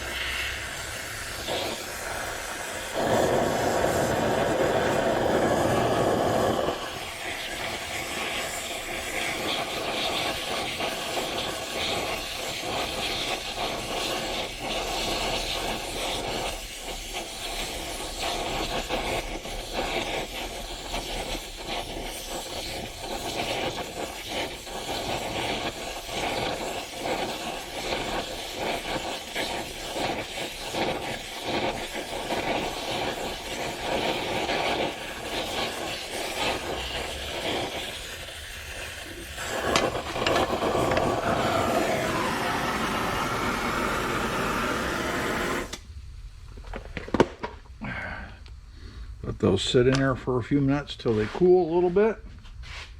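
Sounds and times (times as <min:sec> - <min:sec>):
gas torch flame hissing: 0:00.0 - 0:52.9.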